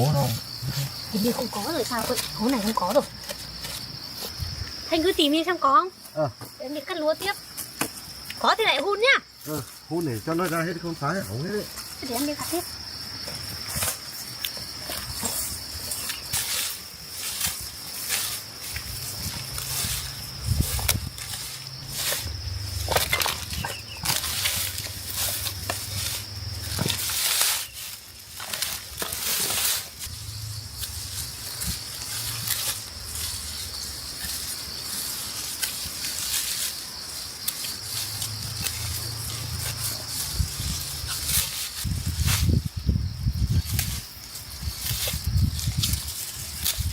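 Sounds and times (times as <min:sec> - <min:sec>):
rice stalks crunching and rustling: 0:09.4 - 0:46.9.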